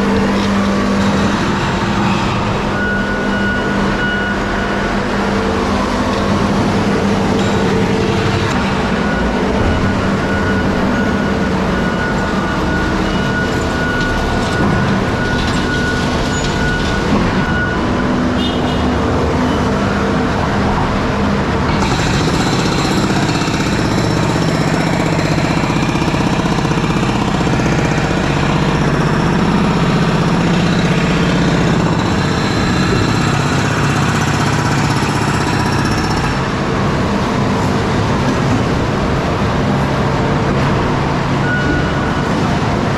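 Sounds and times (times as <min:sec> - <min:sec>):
diesel truck engine running: 0:00.0 - 0:41.5
construction machinery noise: 0:00.0 - 0:42.9.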